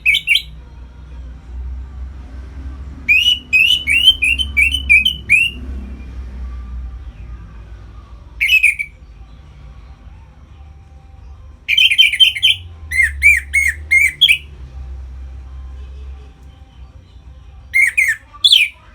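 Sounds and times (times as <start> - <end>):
thrush singing: 0.0 - 18.9.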